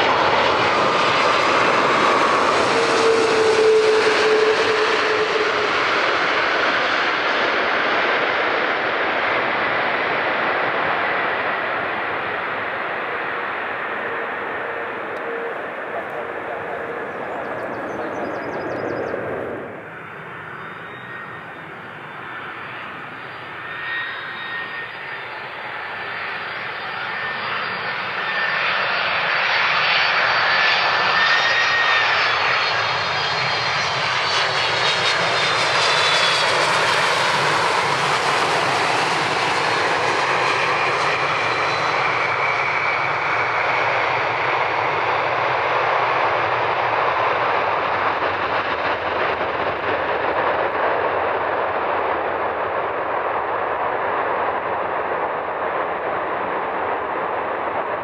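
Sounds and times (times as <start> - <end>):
jet airliner landing: 0.0 - 58.0.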